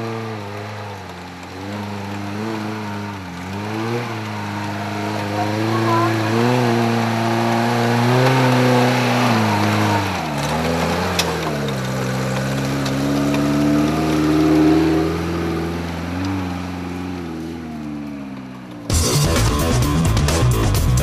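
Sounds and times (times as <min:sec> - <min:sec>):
engine revving under load: 0:00.0 - 0:21.0.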